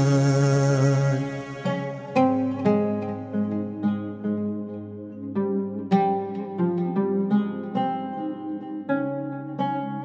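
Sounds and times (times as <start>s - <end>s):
string instrument melody: 0.0s - 10.0s.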